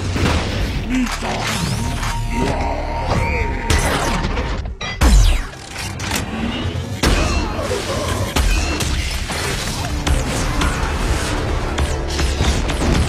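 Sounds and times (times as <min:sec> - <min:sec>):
film score music: 0:00.0 - 0:13.0.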